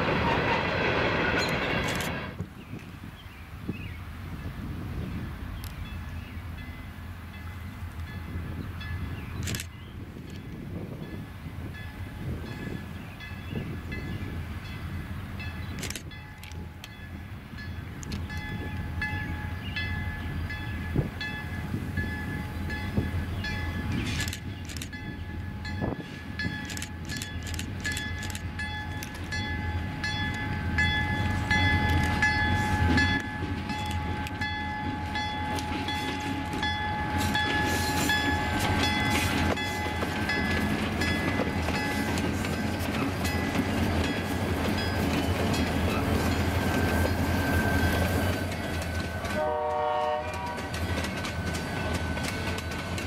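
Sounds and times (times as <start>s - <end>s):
train wheels clanking on track: 0.0s - 2.4s, 7.4s - 53.0s
diesel locomotive engines whining: 0.0s - 53.0s.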